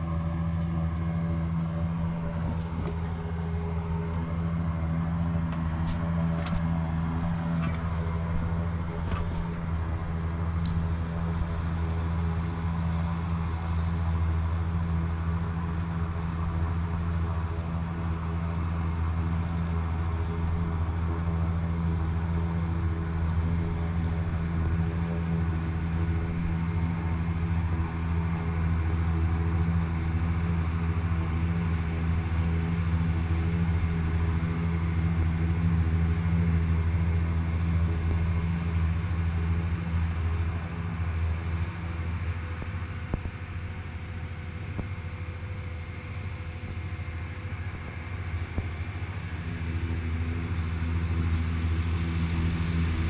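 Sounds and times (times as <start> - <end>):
tractor engine humming: 0.0 - 53.0.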